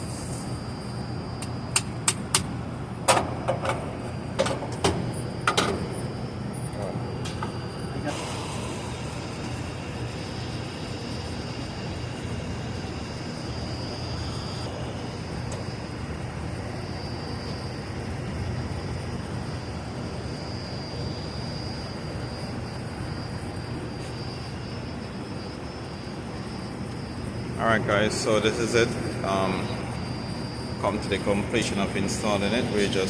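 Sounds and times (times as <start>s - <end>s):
cooler compressor humming: 0.0s - 33.0s
thin high whine: 0.0s - 33.0s.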